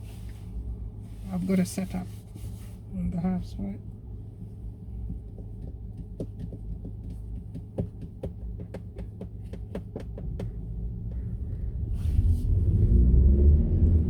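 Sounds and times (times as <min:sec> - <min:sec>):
car engine rumble: 0:00.0 - 0:14.0
road noise: 0:00.0 - 0:14.0.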